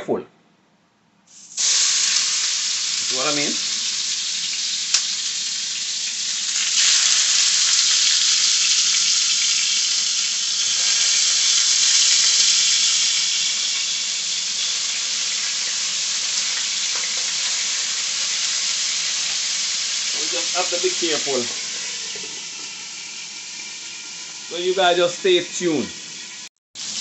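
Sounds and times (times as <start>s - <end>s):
fish frying in oil: 1.3s - 27.0s.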